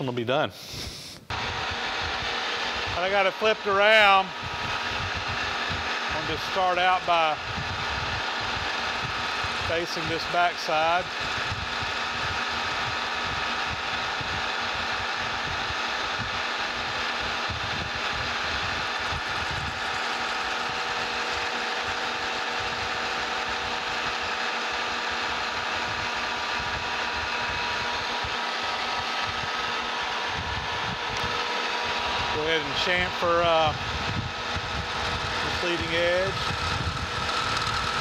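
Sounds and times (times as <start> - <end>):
metal lathe whirring: 1.3 - 38.0.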